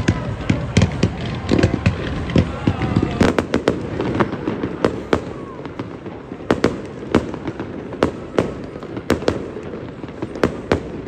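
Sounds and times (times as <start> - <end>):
fireworks bursting: 0.0 - 11.0
steady background noise: 0.0 - 11.0.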